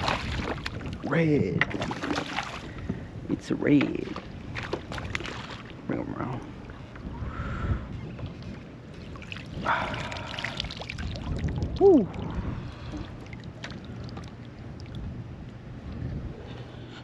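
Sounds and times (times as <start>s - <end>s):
water splashing and trickling: 0.0s - 7.2s, 8.1s - 16.1s.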